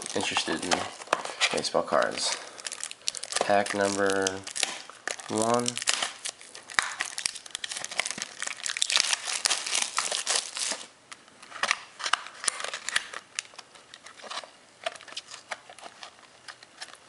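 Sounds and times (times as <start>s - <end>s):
foil wrapper tearing and crinkling: 0.0s - 10.9s, 11.5s - 17.0s.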